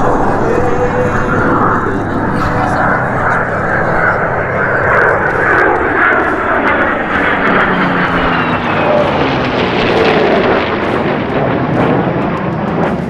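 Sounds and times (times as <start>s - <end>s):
airplane engine noise: 0.0s - 13.0s
faint whine falling in pitch: 0.0s - 13.0s.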